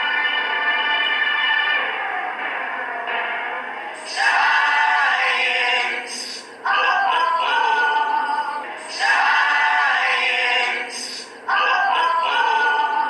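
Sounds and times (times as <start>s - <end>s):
voices singing a jingle: 1.8s - 13.0s.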